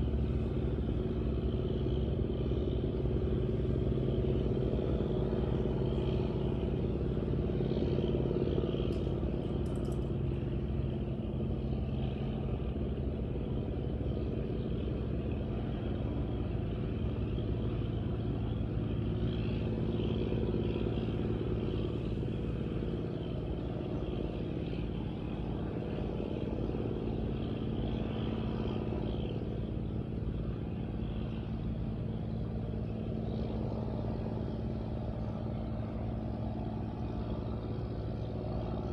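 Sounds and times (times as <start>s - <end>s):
boat diesel engines droning: 0.0s - 38.9s.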